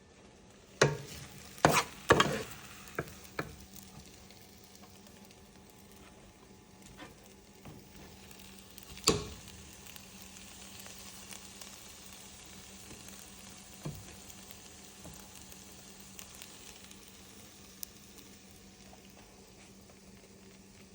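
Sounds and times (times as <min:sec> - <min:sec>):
rice sizzling in a hot pan: 0:00.0 - 0:20.9.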